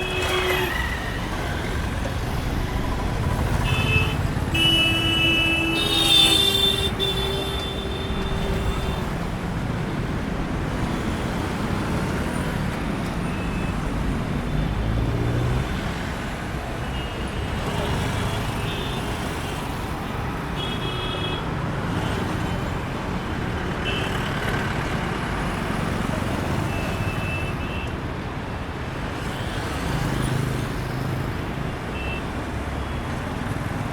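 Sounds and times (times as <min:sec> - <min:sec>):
heavy vehicle engines rumbling: 0:00.0 - 0:33.9.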